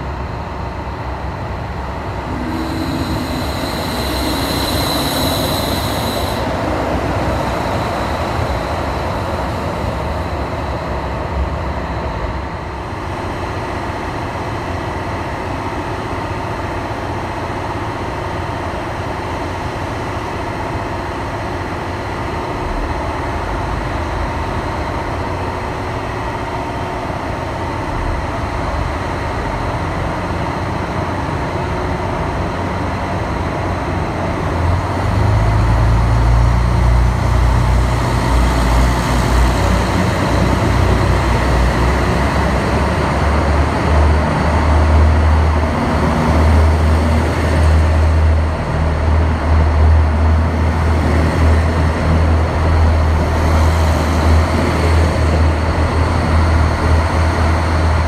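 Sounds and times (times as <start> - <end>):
steady train hum: 0.0 - 58.0.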